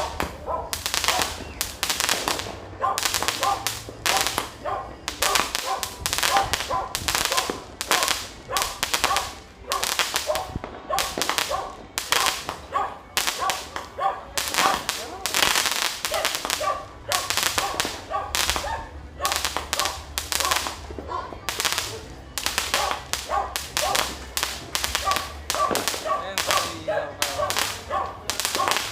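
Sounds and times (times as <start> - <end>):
fireworks crackling and popping: 0.0 - 28.9.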